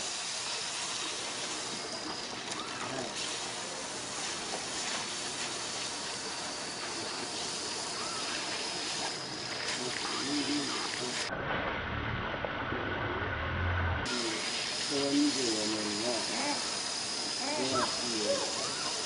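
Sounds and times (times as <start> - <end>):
steady rushing hiss: 0.0 - 2.3, 2.9 - 11.3, 14.1 - 19.0.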